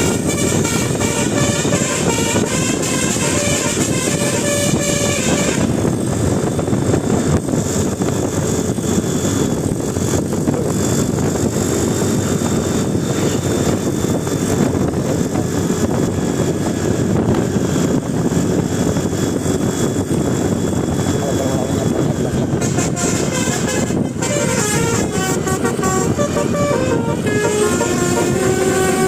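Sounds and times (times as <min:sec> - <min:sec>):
bus engine rumbling: 0:00.0 - 0:29.0.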